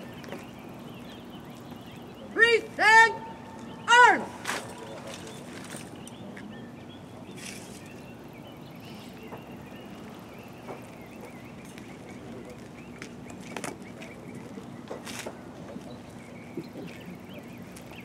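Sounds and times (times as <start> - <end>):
faint birds chirping: 0.0 - 18.0
steady low hum: 0.0 - 18.0.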